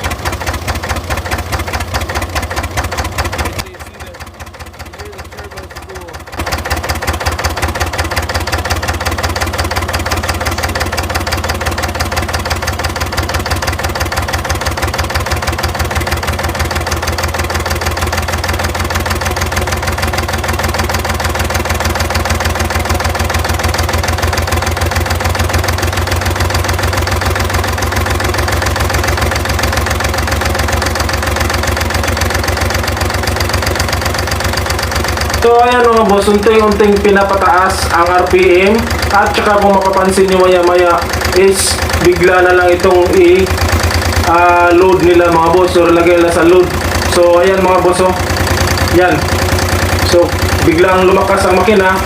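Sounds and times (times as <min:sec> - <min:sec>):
diesel generator knocking: 0:00.0 - 0:52.0.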